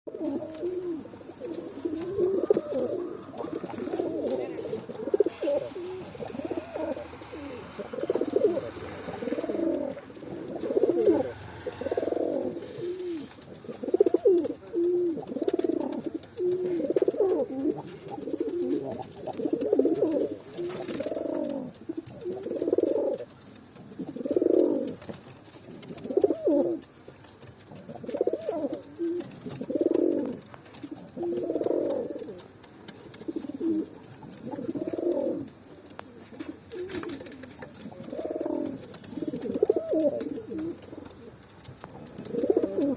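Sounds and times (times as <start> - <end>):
pigeons cooing: 0.1 - 42.9.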